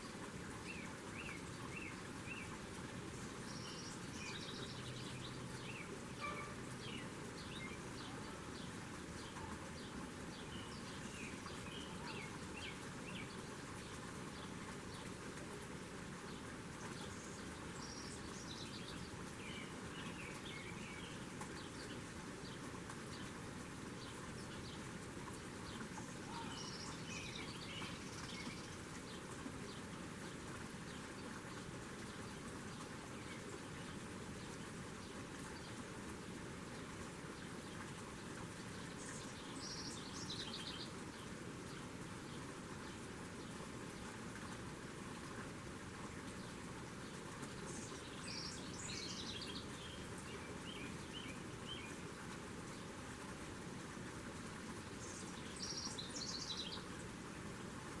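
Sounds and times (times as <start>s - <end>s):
steady background hiss: 0.0s - 58.0s
small birds chirping: 0.6s - 15.2s, 16.2s - 45.4s, 46.1s - 53.0s, 54.4s - 57.2s.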